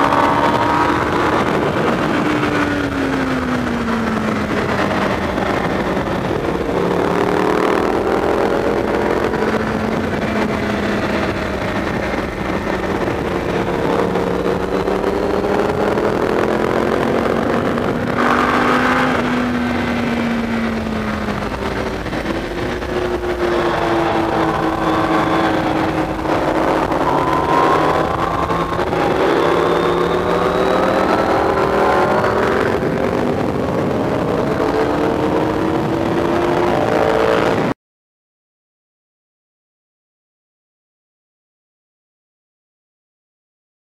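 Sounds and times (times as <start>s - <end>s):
motorcycle engine revving: 0.0s - 37.8s
wind rushing: 0.0s - 37.8s.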